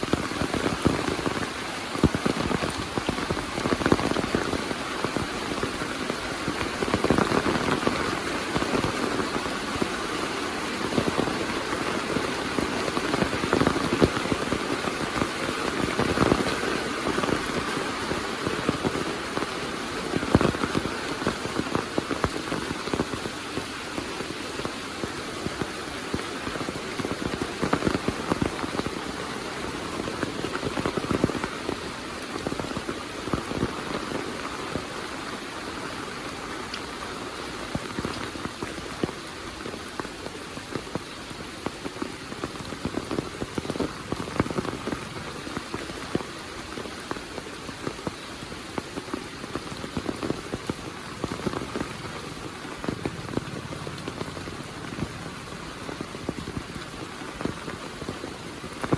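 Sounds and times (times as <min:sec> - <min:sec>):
heavy rain falling: 0:00.0 - 0:58.9
sharp raindrops hitting close by: 0:00.0 - 0:58.9.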